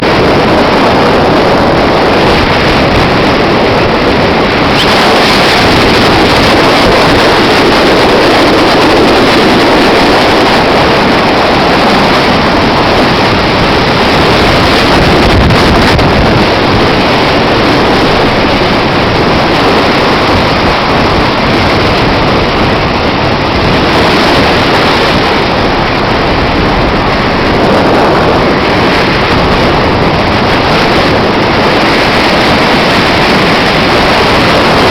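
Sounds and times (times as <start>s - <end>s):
sea waves: 0.0s - 34.9s
wind buffeting microphone: 0.0s - 34.9s
wind rushing: 0.0s - 34.9s.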